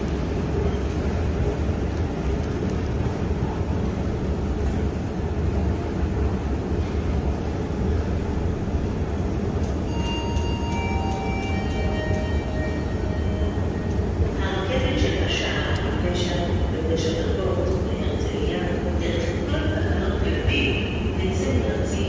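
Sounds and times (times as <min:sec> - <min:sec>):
escalator low rumble: 0:00.0 - 0:22.0.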